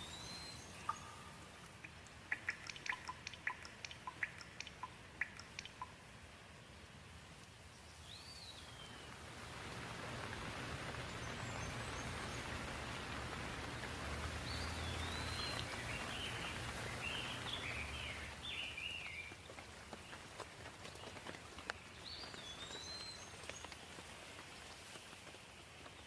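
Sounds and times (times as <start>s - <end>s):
small birds chirping: 0.0s - 9.3s, 10.1s - 26.0s
rain falling: 0.0s - 26.0s.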